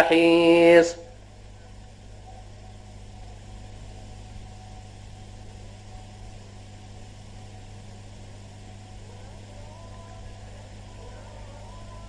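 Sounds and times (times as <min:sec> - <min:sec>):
background hiss: 0:00.0 - 0:12.0
low electrical hum: 0:00.0 - 0:12.0.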